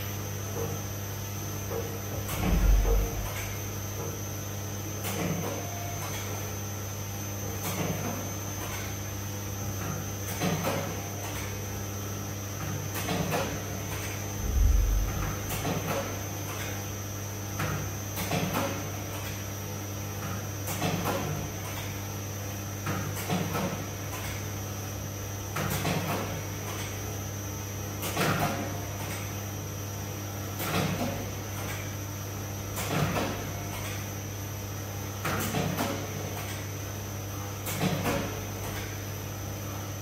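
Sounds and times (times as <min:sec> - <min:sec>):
machine motor hum: 0:00.0 - 0:40.0.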